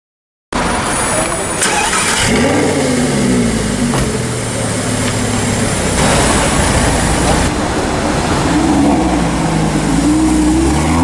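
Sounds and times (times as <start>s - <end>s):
car engine starting and idling: 0.6s - 11.0s.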